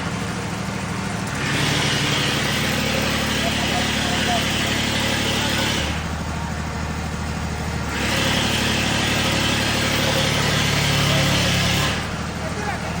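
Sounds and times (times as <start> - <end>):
diesel generator running: 0.0 - 13.0.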